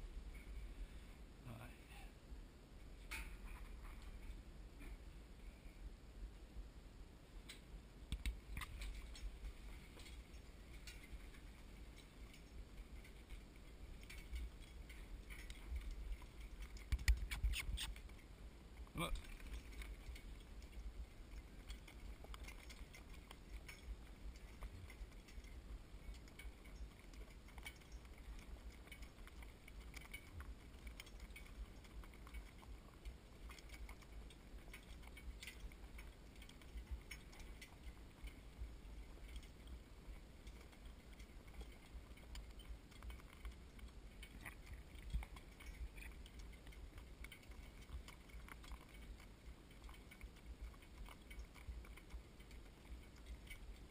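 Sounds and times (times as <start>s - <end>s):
hoof clops on dirt: 8.2s - 53.9s
harness jingling: 8.6s - 53.9s.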